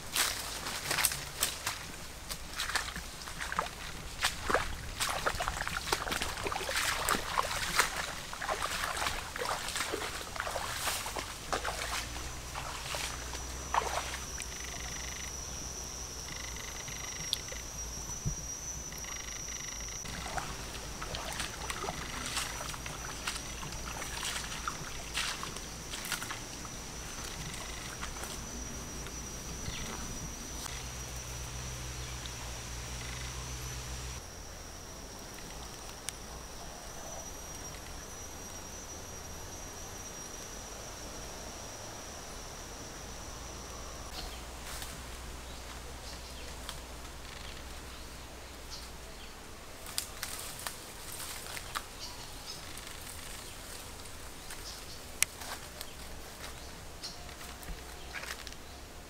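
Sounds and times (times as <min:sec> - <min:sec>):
insect buzzing: 0:00.0 - 0:58.6.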